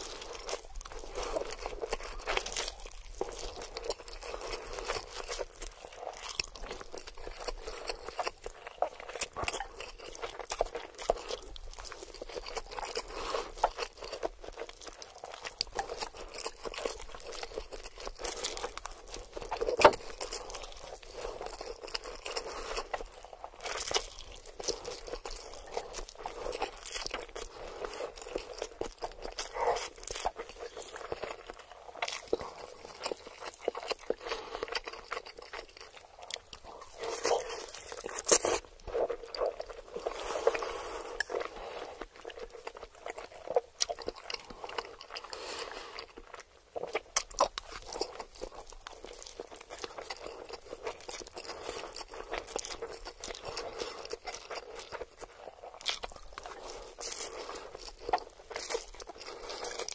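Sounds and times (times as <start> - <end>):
noodles slurped and chewed: 0.0 - 59.9.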